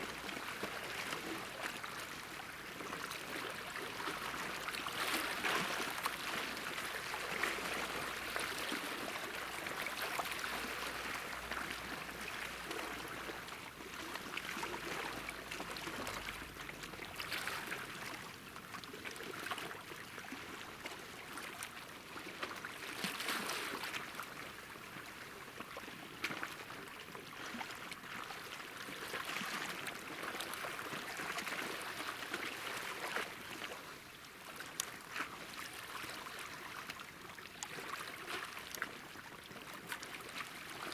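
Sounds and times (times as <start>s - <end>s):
sea waves lapping at shore: 0.0s - 40.9s.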